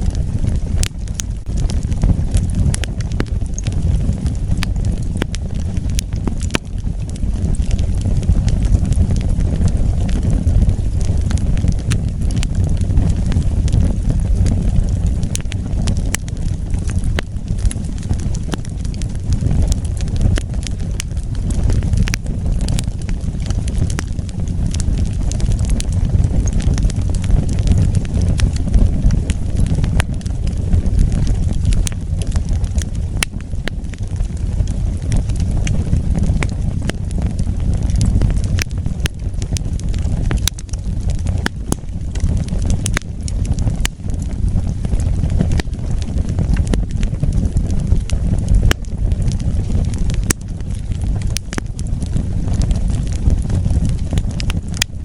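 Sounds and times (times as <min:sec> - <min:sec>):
low rumble of burning: 0:00.0 - 0:55.0
sharp pops from fire: 0:00.0 - 0:55.0
wood fire crackling: 0:00.0 - 0:55.0.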